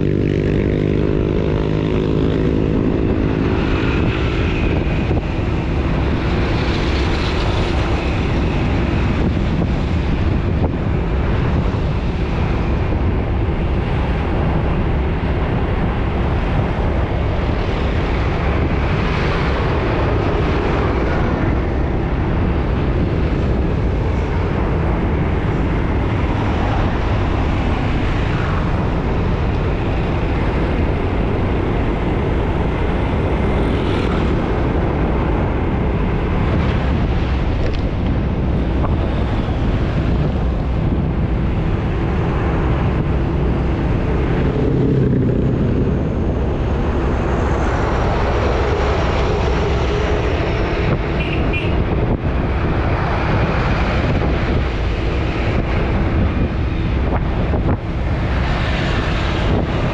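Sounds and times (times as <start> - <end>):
road traffic passing: 0.0 - 59.9.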